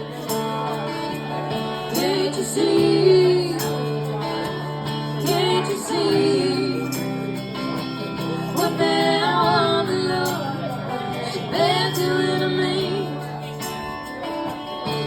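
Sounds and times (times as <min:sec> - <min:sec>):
band playing country-rock: 0:00.0 - 0:15.0.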